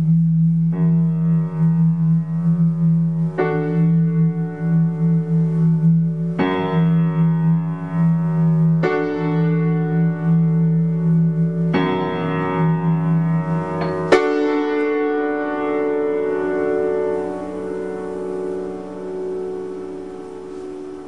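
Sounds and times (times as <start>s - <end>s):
upright piano chords: 0.0s - 21.0s.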